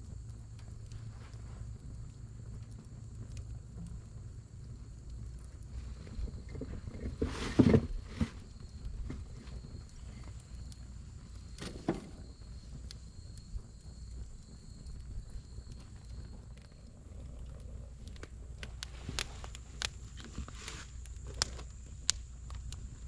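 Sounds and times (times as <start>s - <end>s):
firewood crackling and popping: 0.0s - 23.0s
low steady rumble: 0.0s - 23.0s.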